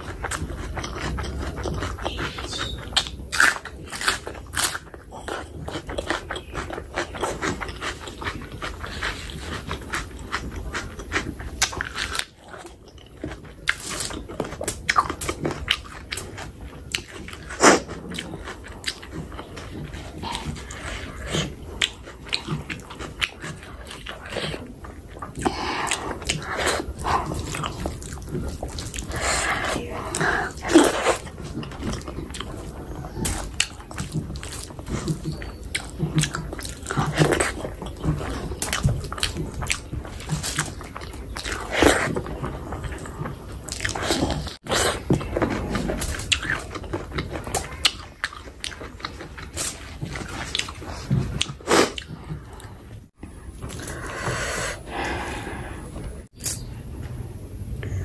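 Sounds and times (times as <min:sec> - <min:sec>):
person chewing food: 0:00.0 - 0:56.7.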